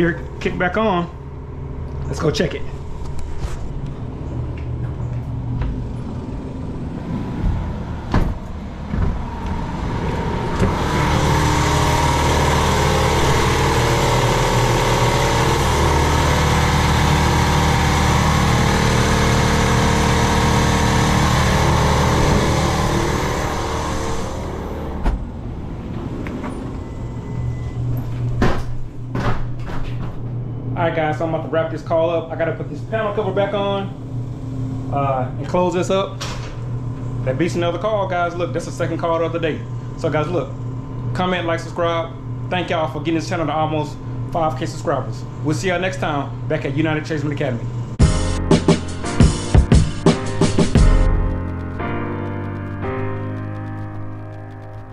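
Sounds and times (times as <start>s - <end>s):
air compressor humming: 0.0s - 54.9s.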